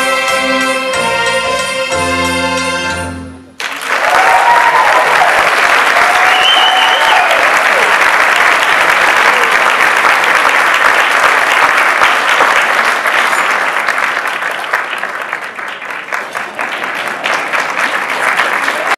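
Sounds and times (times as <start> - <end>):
audience applauding: 3.6 - 18.9.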